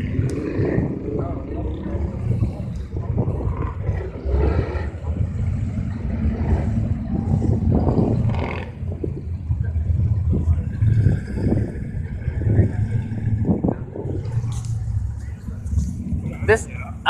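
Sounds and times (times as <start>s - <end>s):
off-road truck engines revving: 0.0s - 17.0s.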